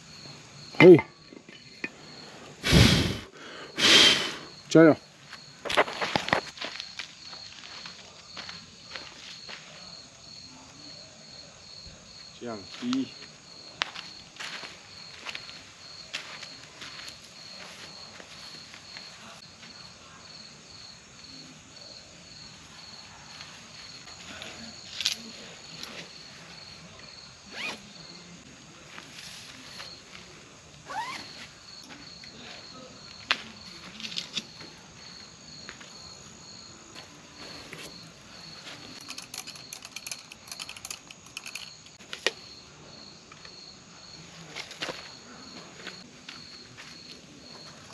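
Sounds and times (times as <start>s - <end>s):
insect chirping: 0.0s - 47.9s.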